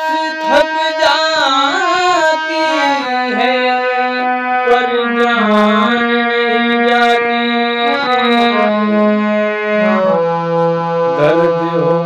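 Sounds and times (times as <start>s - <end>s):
harmonium melody: 0.0s - 12.0s.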